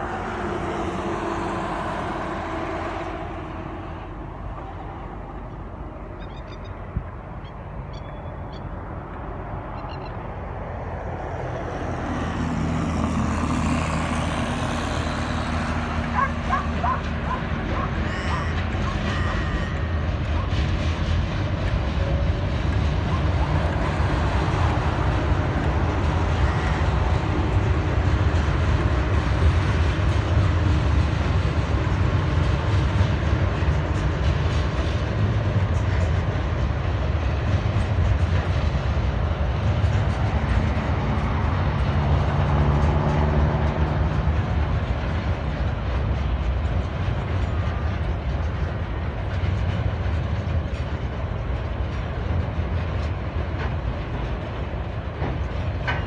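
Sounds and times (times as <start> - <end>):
diesel locomotive engines: 0.0 - 56.0
wagons rumbling over rails: 0.0 - 56.0.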